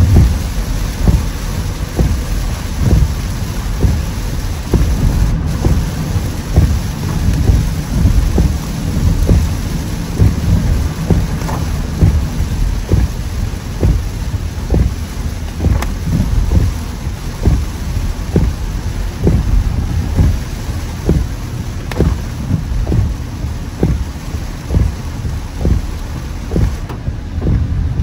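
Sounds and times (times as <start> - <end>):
deep steady rumble: 0.0 - 28.0
heavy rain drumming on car: 0.0 - 28.0
short thumps: 4.7 - 28.0.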